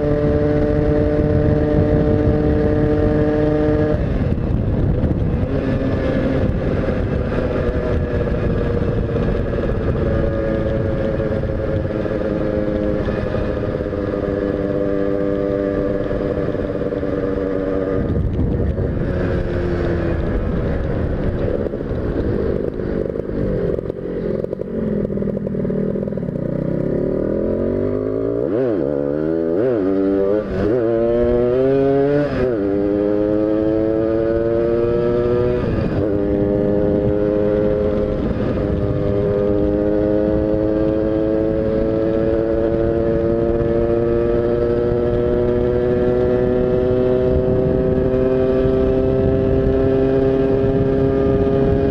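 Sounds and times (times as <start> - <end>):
racing motorcycle engine revving: 0.0 - 51.9
wind noise on microphone: 0.0 - 51.9.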